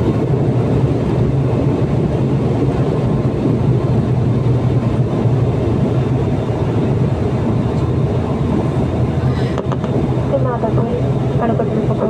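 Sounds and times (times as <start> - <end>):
constant cabin rushing noise: 0.0 - 12.0
propeller engine hum: 0.0 - 12.0.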